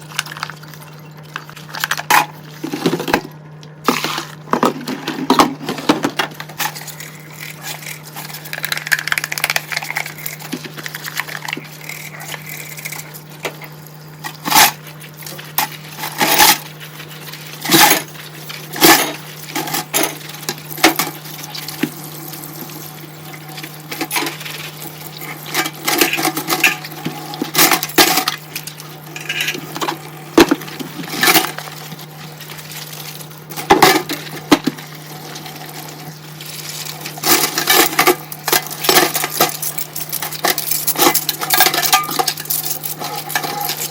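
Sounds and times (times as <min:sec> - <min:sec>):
water in sink: 0:00.0 - 0:43.9.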